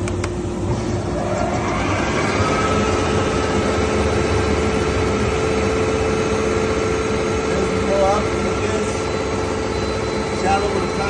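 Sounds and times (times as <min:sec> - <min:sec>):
planer running: 0:00.0 - 0:11.0.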